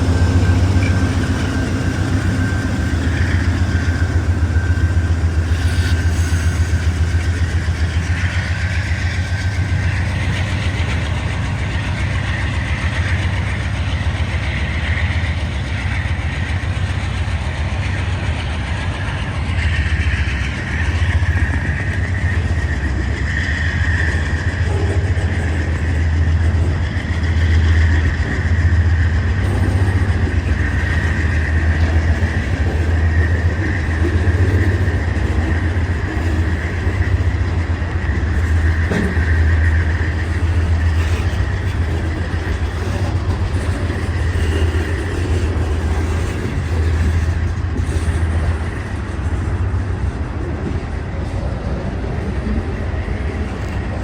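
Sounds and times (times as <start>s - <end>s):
train rolling past: 0.0s - 54.0s.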